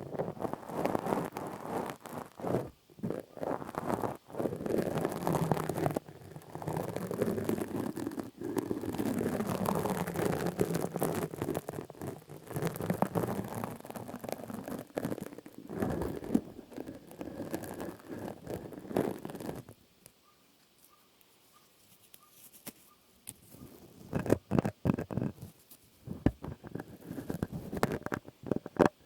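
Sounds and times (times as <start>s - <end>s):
crackling and scratching: 0.0s - 29.0s
rustling: 0.0s - 29.0s.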